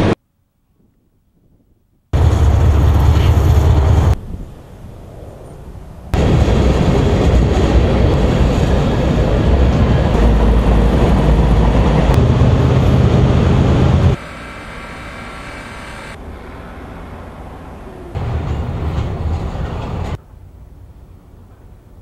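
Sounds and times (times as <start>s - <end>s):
freight train rumbling on rails: 2.2s - 4.4s, 6.0s - 22.0s.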